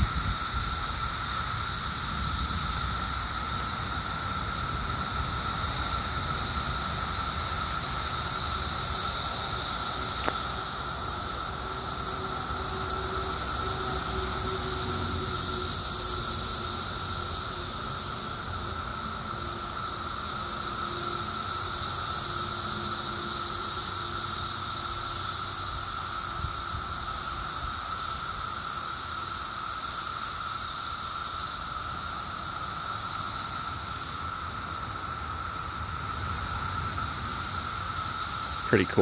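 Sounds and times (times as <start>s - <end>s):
cicadas droning: 0.0s - 39.0s.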